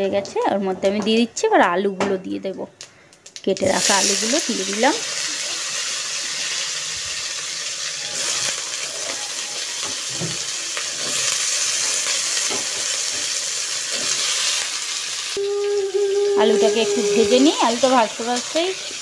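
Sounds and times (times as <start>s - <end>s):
potatoes sizzling in oil: 3.3s - 19.0s.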